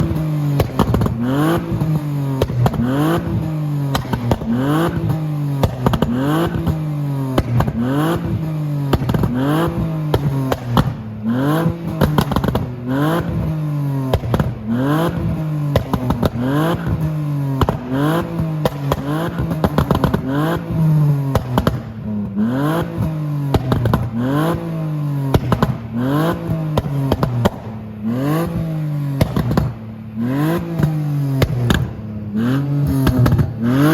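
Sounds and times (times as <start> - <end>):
car engine revving: 0.0 - 33.9
exhaust crackles and pops: 0.0 - 33.9.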